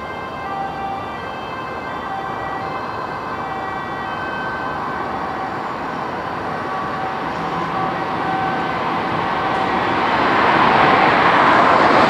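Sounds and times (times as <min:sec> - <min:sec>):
road noise: 0:00.0 - 0:12.0
two-tone ambulance siren: 0:00.0 - 0:12.0.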